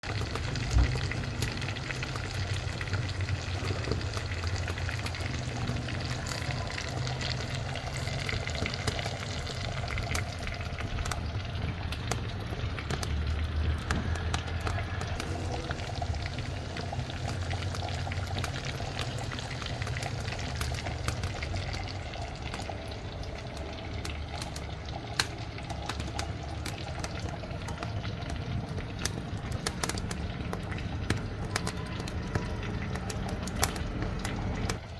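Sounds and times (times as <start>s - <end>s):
crackles and pops: 0.0s - 34.9s
sausage sizzling in a frying pan: 0.0s - 34.9s.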